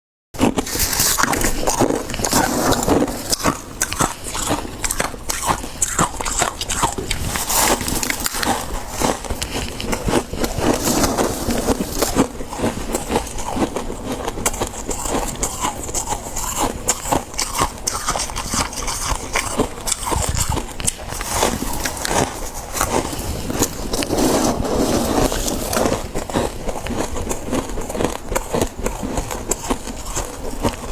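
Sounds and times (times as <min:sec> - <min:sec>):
frost being chewed: 0:00.4 - 0:30.9.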